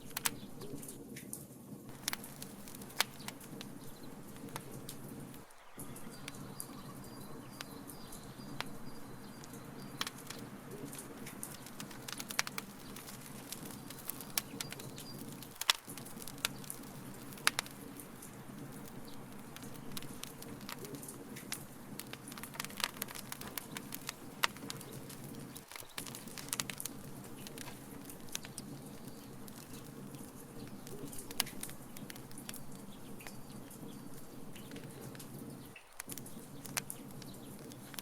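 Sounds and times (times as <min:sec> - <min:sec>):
fire crackling and popping: 0:00.0 - 0:38.0
low rumble of flames: 0:00.0 - 0:38.0.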